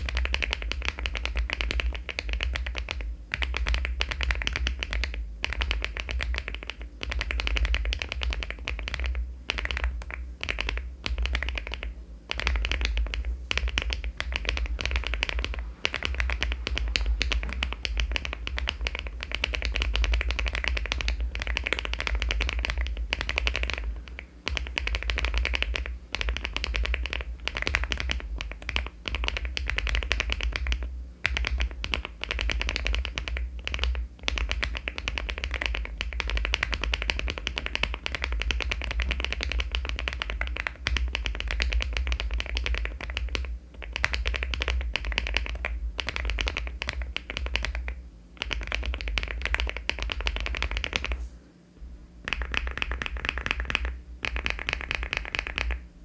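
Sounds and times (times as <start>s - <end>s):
fast typing on mechanical keyboard: 0.0s - 51.2s, 52.2s - 55.8s.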